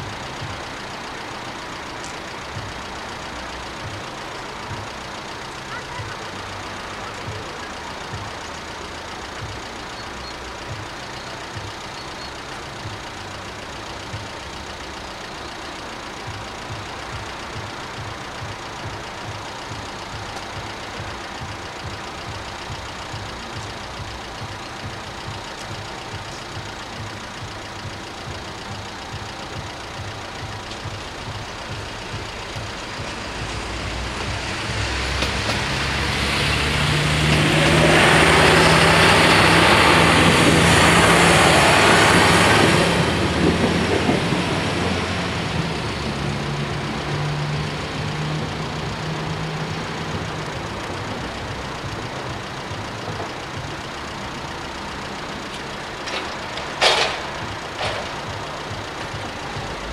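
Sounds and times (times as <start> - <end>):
diesel engine hum: 0.0 - 59.9
train wheels rumbling on rails: 0.0 - 59.9.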